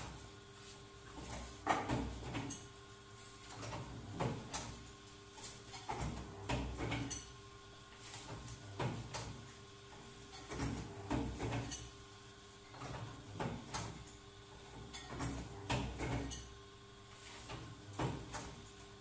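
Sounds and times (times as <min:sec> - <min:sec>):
steady motor hum: 0:00.0 - 0:19.0.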